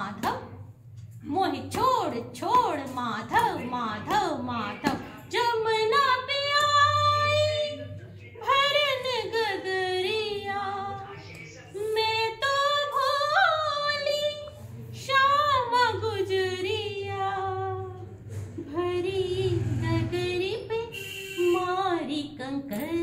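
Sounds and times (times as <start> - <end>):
woman singing: 1.3 - 11.1, 11.8 - 18.0, 18.6 - 23.0.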